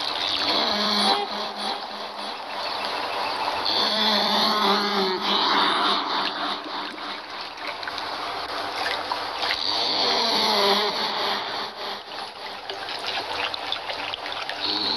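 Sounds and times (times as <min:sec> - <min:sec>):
water trickling: 0:00.0 - 0:14.9.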